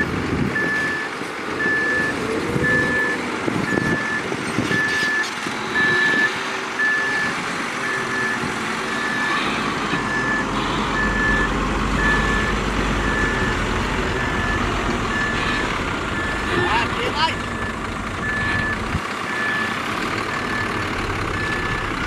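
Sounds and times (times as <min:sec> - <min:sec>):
heavy engine running: 0:00.0 - 0:22.0
back-up alarm beeping: 0:00.6 - 0:20.8.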